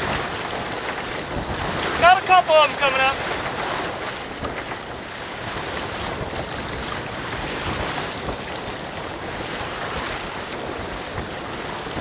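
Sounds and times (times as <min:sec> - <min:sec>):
sea water washing along boat: 0:00.0 - 0:12.0
wind across microphone: 0:00.0 - 0:12.0.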